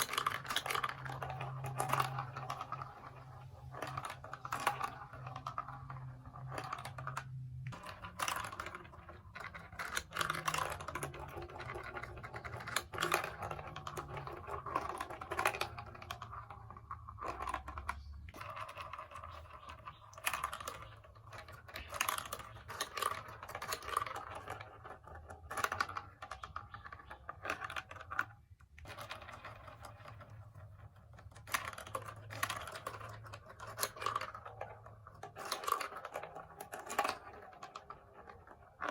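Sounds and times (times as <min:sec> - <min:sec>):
plastic pieces clicking: 0:00.0 - 0:38.9.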